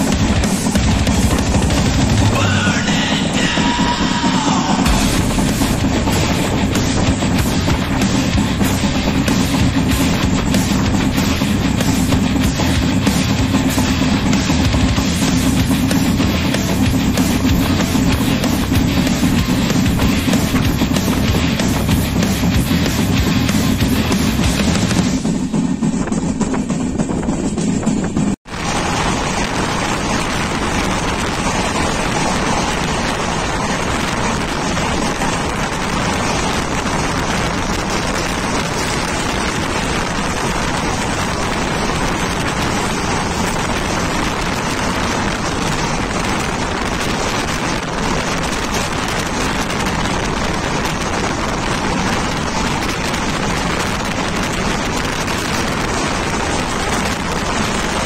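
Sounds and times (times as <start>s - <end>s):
fast train rumble: 0.0s - 58.0s
wind buffeting microphone: 0.0s - 58.0s.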